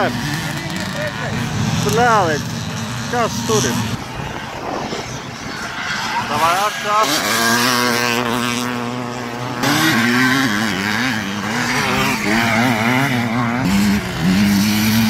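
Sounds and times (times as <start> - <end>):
motorcycle engines revving: 0.0 - 15.0
steady engine drone: 0.0 - 15.0.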